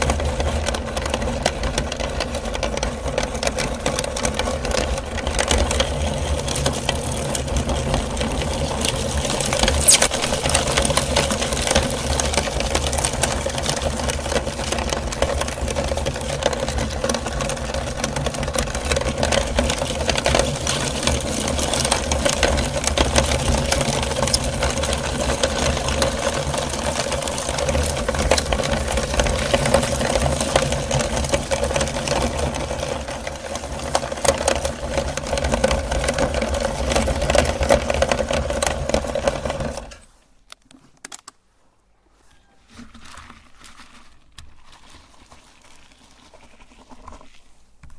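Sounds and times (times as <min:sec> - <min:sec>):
clicking and crackling of balls: 0:00.0 - 0:41.4, 0:42.7 - 0:47.9.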